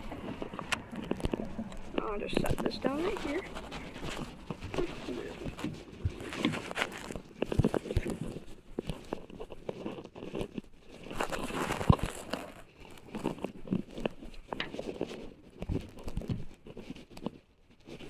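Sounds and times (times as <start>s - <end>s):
knocks and crunches: 0.0s - 18.0s
rustling and crinkling: 0.0s - 18.0s.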